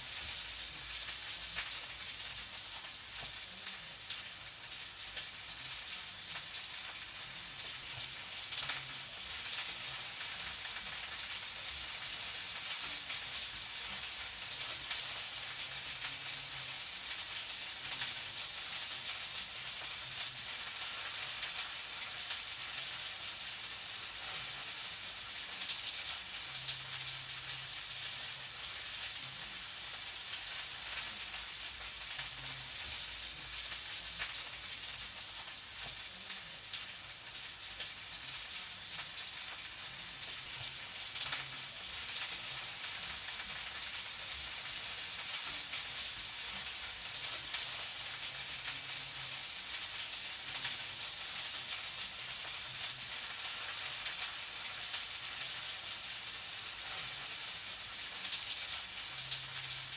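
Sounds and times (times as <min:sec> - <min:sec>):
food sizzling in a frying pan: 0:00.0 - 0:59.9.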